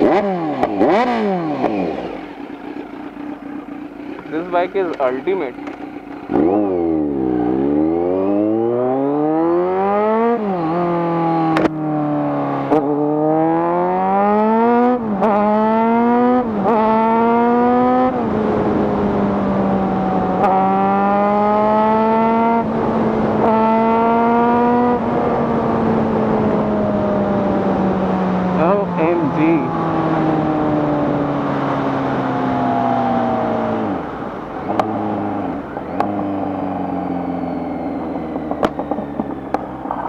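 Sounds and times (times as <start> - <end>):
motorcycle accelerating through gears: 0.0 - 40.0.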